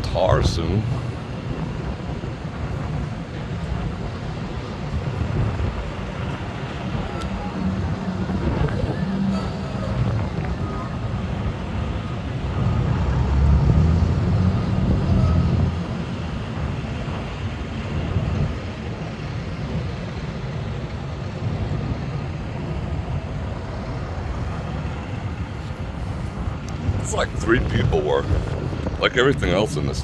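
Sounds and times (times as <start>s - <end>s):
street traffic rumble: 0.0s - 30.0s
wind buffeting microphone: 0.0s - 30.0s.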